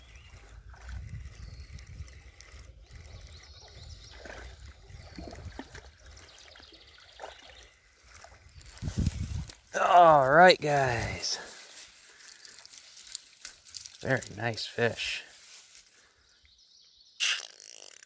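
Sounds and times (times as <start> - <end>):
stream water trickling: 0.0 - 16.6.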